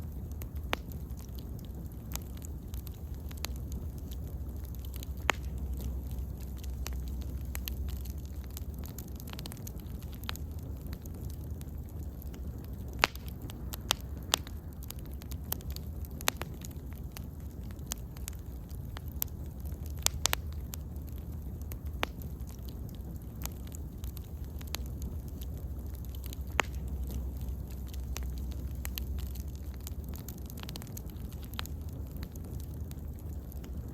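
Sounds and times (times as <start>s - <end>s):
bonfire crackling and popping: 0.0s - 33.9s
low rumble of burning: 0.0s - 33.9s.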